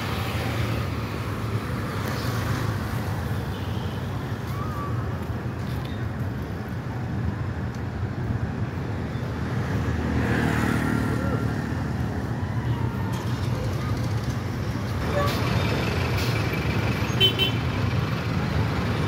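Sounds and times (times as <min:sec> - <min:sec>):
road traffic engines humming: 0:00.0 - 0:19.0.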